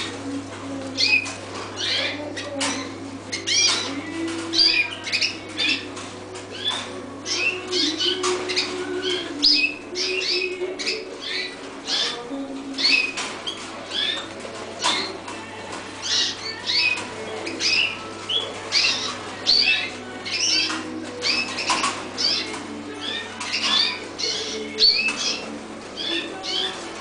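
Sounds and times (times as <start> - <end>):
canaries chirping: 0.0 - 27.0.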